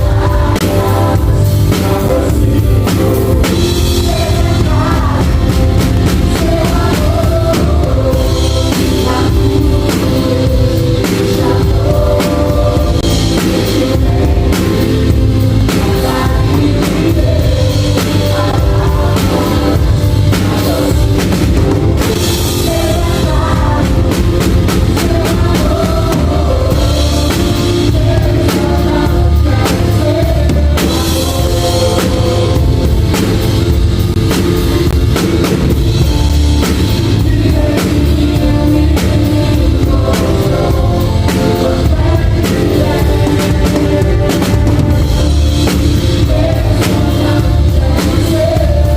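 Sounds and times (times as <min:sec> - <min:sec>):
drum kit playing: 0:00.0 - 0:48.9
rock music with singing: 0:00.0 - 0:48.9.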